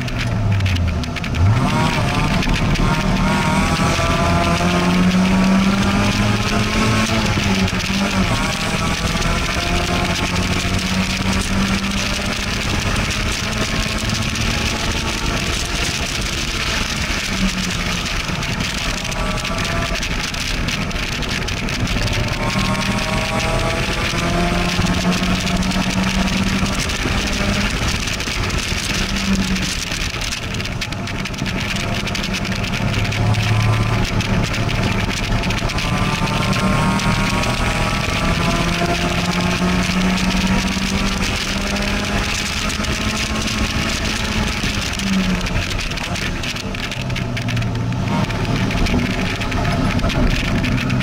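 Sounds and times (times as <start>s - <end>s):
sports car engine accelerating: 0.0s - 51.0s
wind and road noise: 0.0s - 51.0s.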